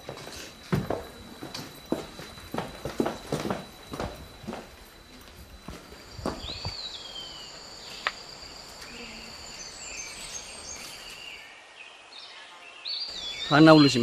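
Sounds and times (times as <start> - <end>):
high insect buzz: 0.0 - 12.1.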